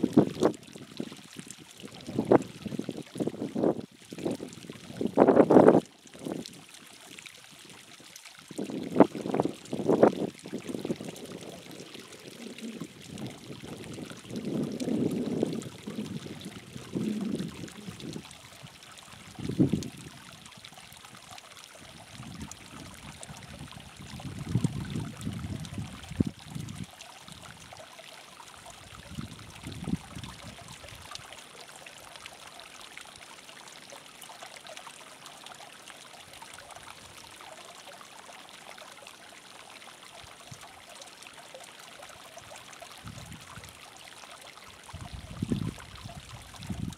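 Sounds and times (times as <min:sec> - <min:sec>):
low rushing water: 0:00.0 - 0:46.9
water trickling: 0:00.0 - 0:46.9.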